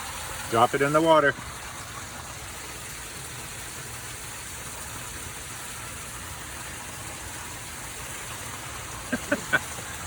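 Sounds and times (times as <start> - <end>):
rainwater rushing into drain: 0.0 - 10.0.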